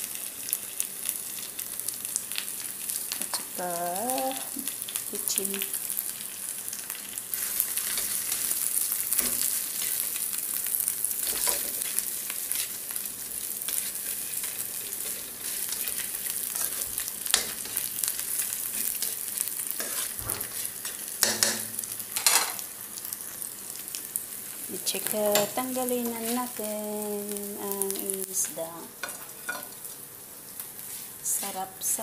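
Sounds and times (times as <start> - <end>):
fish sizzling in a frying pan: 0.0 - 32.0.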